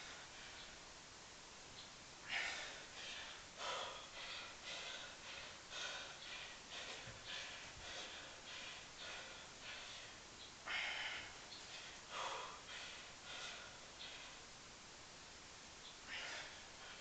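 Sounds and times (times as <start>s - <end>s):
man breathing heavily: 0.0s - 0.8s, 2.2s - 14.6s, 15.9s - 17.0s.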